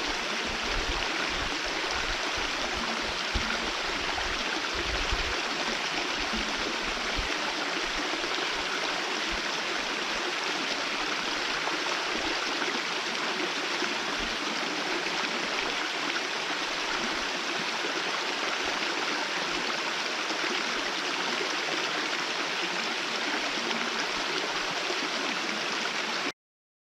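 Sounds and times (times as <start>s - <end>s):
small waterfall splashing: 0.0s - 26.3s.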